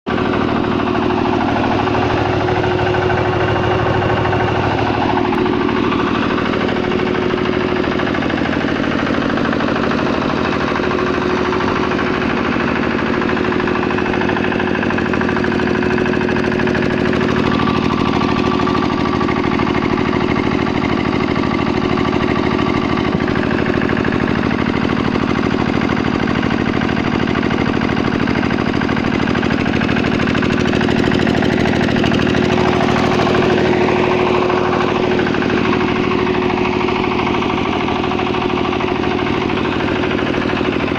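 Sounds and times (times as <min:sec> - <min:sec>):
diesel generator running: 0:00.1 - 0:40.9.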